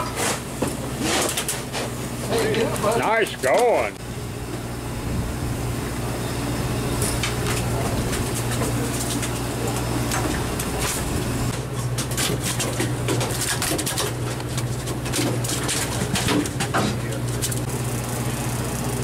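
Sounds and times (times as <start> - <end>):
boat machinery humming: 0.0 - 19.0.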